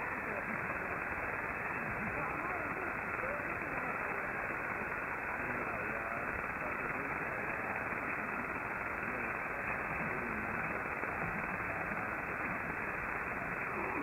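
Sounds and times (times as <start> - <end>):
radio static hiss: 0.0 - 14.0
weak distant radio broadcast: 0.0 - 14.0.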